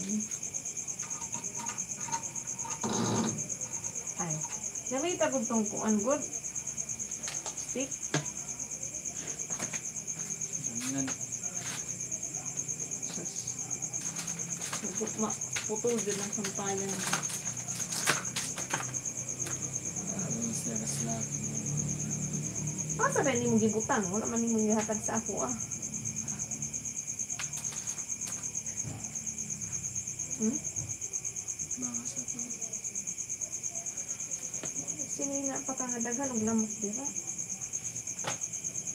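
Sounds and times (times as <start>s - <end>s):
cricket trilling: 0.0s - 38.9s.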